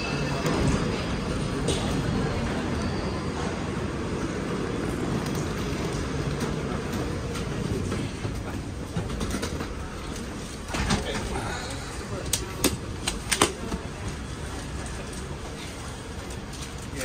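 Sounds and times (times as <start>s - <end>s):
train rumble and hiss: 0.0s - 17.0s.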